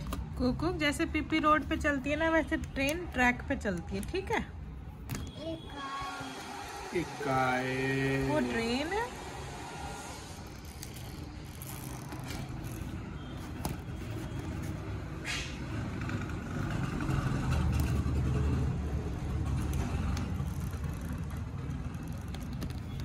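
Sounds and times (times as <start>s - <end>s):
motor vehicle rumble: 4.2s - 23.0s.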